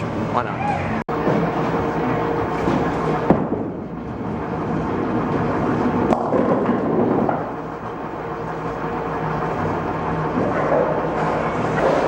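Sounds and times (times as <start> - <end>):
bowling balls rolling: 0.0 - 12.0.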